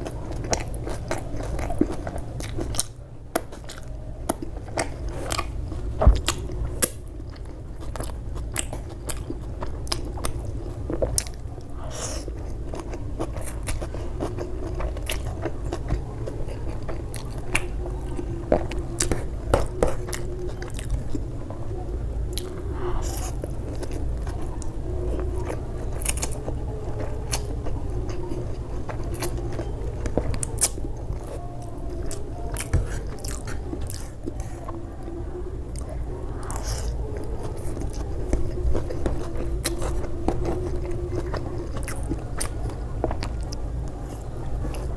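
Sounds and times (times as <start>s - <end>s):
person chewing and biting: 0.0s - 21.2s, 22.3s - 34.7s, 35.8s - 44.9s
steady low hum: 0.0s - 44.9s.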